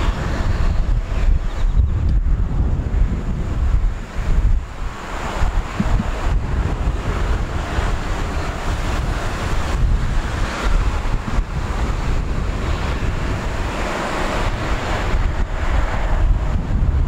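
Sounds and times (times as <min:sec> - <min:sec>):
jet engines rushing: 0:00.0 - 0:17.0
wind buffeting microphone: 0:00.0 - 0:17.0.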